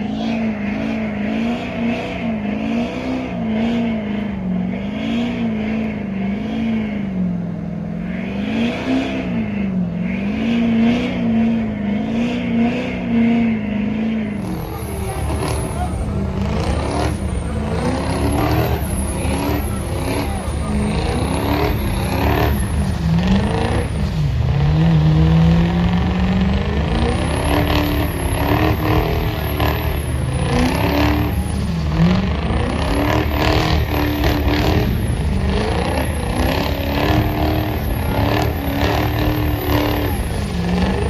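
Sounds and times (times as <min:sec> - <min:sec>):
truck engines revving: 0:00.0 - 0:41.0.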